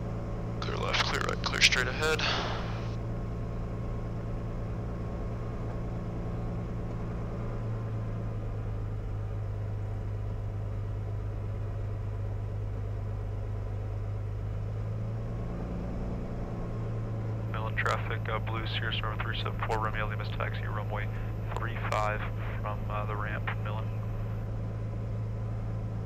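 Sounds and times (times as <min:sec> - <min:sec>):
aircraft engine low hum: 0:00.0 - 0:26.0.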